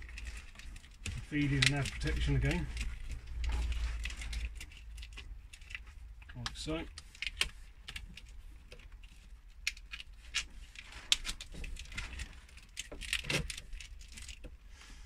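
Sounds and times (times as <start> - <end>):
plastic conduit clicking and scraping: 0.0 - 14.7.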